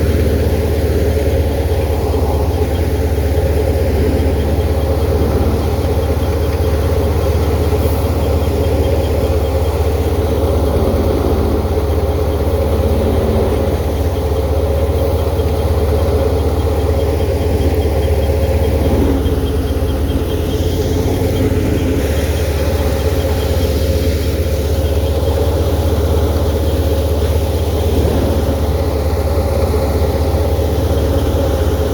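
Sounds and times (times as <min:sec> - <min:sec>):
large engine running steadily: 0:00.0 - 0:31.9.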